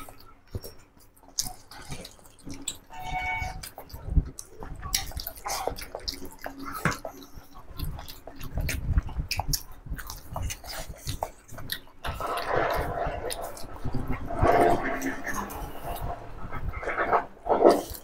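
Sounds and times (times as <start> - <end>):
fingers working rice on plates: 0.0 - 18.0
wet chewing and smacking: 0.0 - 18.0.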